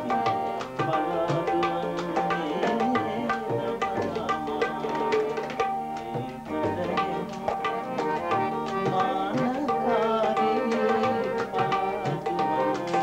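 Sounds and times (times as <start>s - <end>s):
tabla playing quick rhythm: 0.0s - 13.0s.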